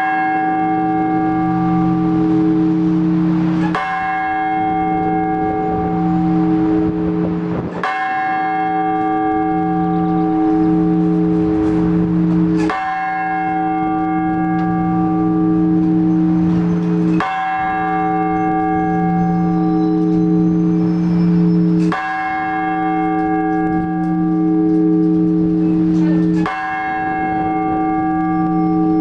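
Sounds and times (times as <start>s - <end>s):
large church bell ringing: 0.0s - 29.0s.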